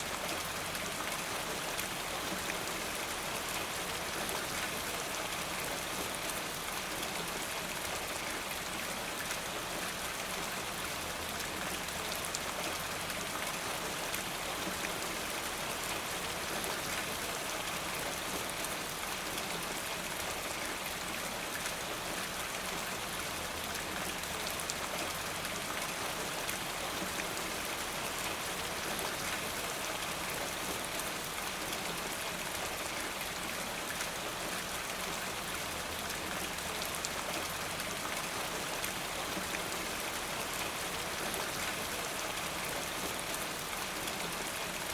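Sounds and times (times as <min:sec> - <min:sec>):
soft rain falling: 0:00.0 - 0:44.9.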